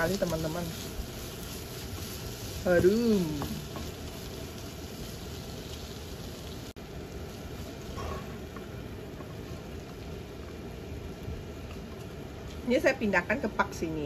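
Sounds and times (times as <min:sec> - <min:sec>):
paste sizzling in oil: 0:00.0 - 0:14.0.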